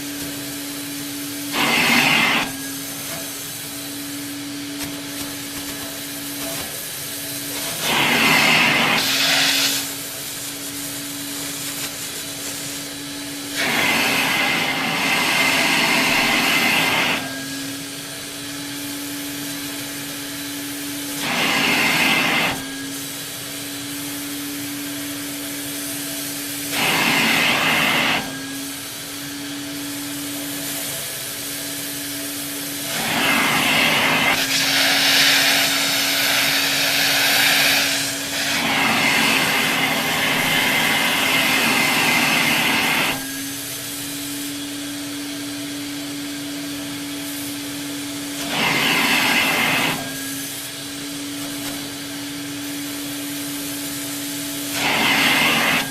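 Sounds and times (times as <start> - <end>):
air rushing through vacuum: 0.0 - 44.7, 46.7 - 55.9
vacuum cleaner motor humming: 0.0 - 55.9.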